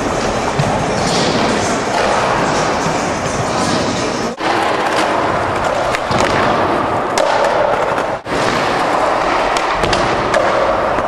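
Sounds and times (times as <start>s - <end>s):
skateboard clacking: 0.0s - 11.0s
skateboard wheels rolling on concrete: 0.0s - 11.0s.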